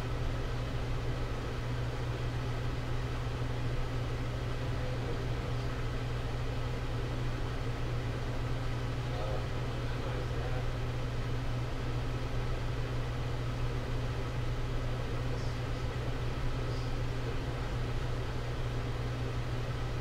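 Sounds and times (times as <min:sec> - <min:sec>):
even hiss of small fan: 0:00.0 - 0:20.0
low electrical hum: 0:00.0 - 0:20.0.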